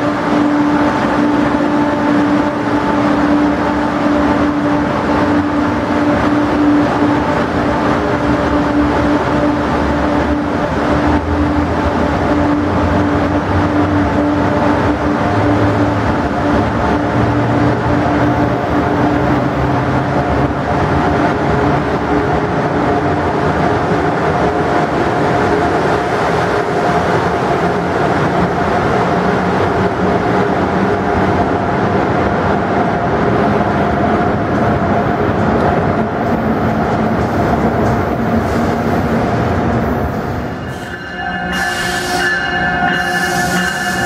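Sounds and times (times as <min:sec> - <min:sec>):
train rolling rumble: 0:00.0 - 0:44.0.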